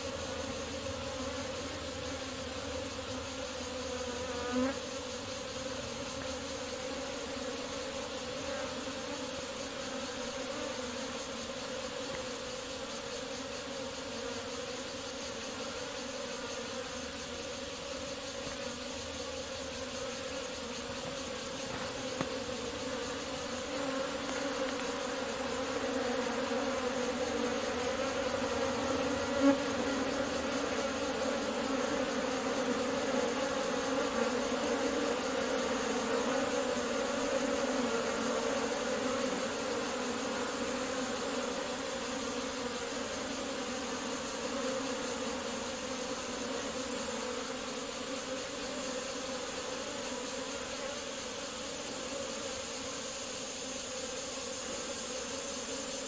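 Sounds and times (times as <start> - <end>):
bee swarm buzzing: 0.0 - 56.0.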